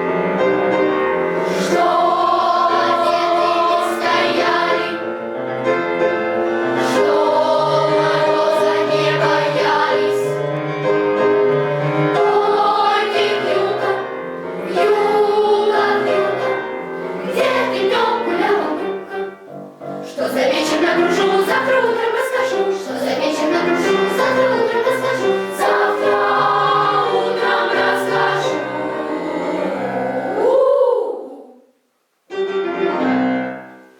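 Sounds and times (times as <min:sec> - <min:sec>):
children's choir singing: 0:01.1 - 0:05.4, 0:06.5 - 0:10.6, 0:11.7 - 0:31.6.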